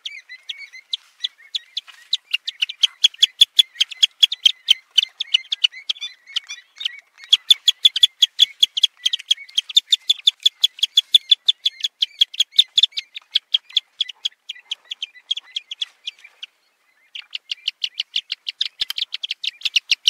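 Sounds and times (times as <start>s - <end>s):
shorebird calling: 0.0s - 20.0s.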